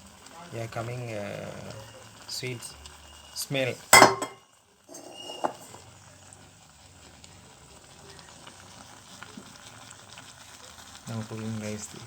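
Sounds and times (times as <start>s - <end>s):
curry faintly sizzling in pot: 0.0s - 12.0s.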